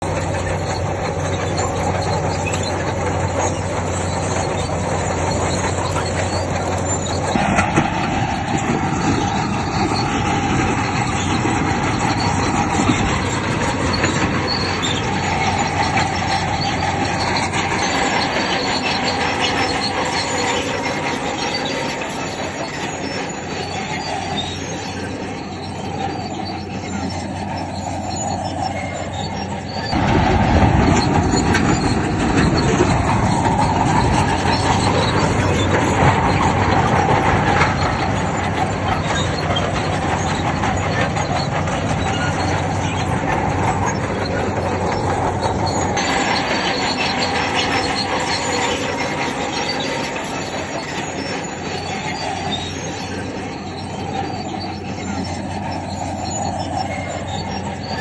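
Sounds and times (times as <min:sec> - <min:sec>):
diesel engine running: 0:00.0 - 0:58.0
steel crawler tracks squealing: 0:00.0 - 0:58.0.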